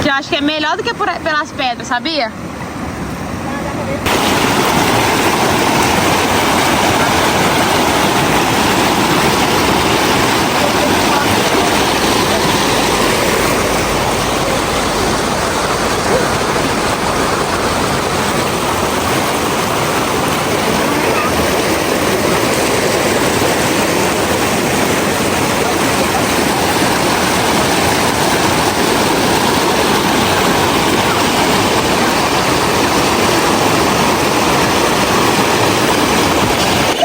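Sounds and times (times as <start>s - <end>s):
river rushing over rocks: 1.0s - 37.0s.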